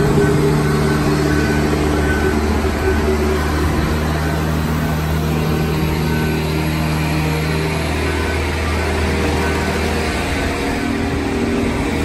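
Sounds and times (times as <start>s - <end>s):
engine and hydraulics humming: 0.0s - 12.0s.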